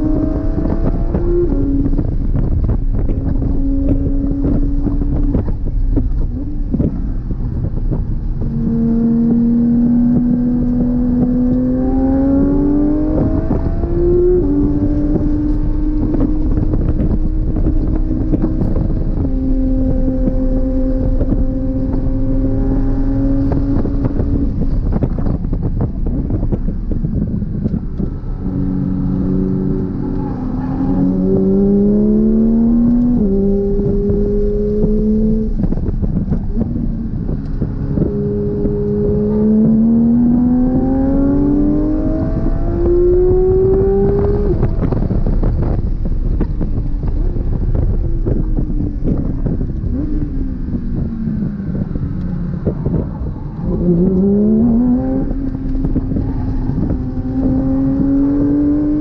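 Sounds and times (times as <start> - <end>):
sports car engine with gear changes: 0.0 - 59.0
wind and road noise: 0.0 - 59.0.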